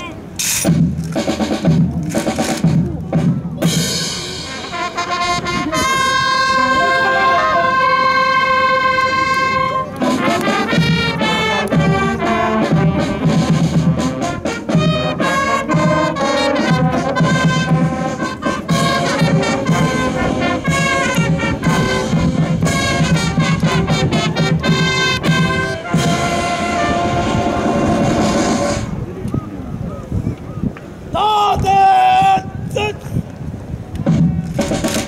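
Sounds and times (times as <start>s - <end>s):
brass band playing lively tune: 0.4s - 29.0s, 34.1s - 35.0s.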